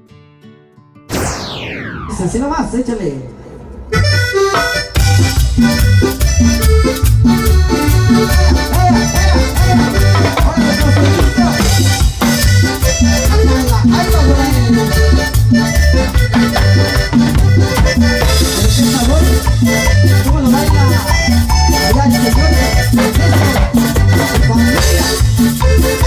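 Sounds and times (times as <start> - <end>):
band playing latin dance music: 3.9 - 26.0.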